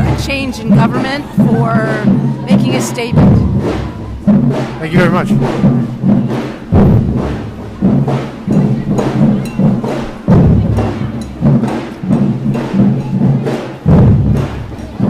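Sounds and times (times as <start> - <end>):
deep bass drum hits: 0.0 - 15.0
drums beating a steady rhythm: 0.0 - 15.0.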